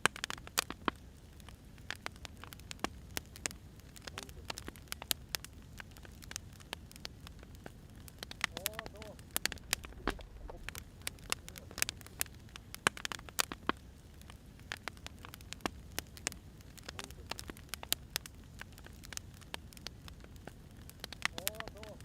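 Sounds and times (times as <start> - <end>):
firewood crackling and popping: 0.0 - 22.0
low steady fire rumble: 0.0 - 22.0.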